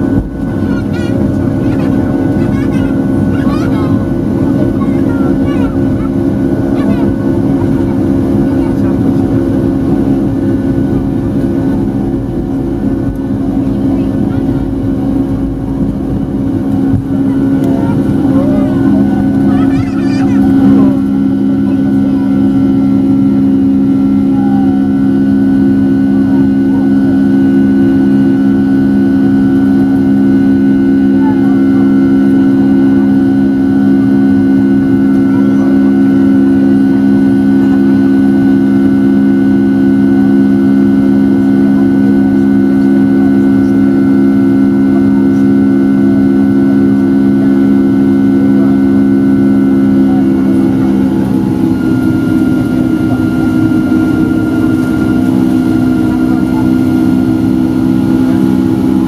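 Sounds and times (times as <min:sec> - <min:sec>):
high engine whine: 0:00.0 - 0:59.0
jet engine drone from cabin: 0:00.0 - 0:59.0.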